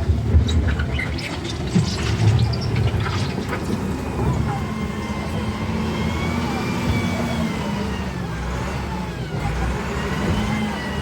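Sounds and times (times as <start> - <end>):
heavy engine running: 0.0 - 11.0.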